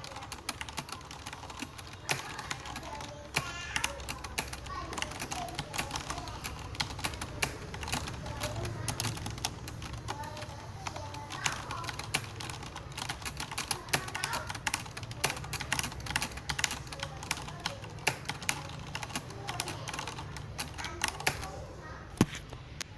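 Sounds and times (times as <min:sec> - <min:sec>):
mechanical keyboard typing: 0:00.0 - 0:21.6.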